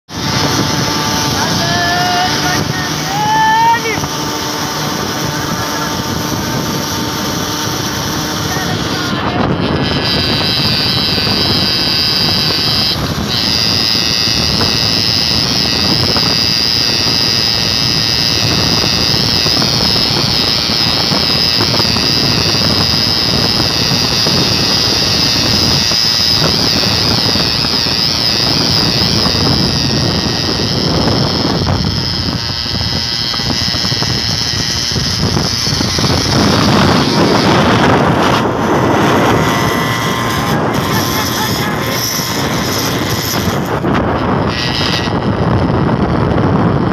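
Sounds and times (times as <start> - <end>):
rickshaw engines buzzing: 0.1 - 46.9
road noise: 0.1 - 46.9
rushing wind: 0.1 - 46.9.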